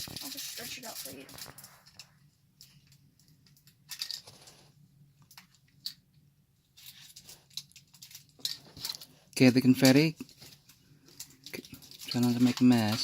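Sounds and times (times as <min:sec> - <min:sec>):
plastic packaging rustling: 0:00.0 - 0:05.7, 0:06.7 - 0:13.0.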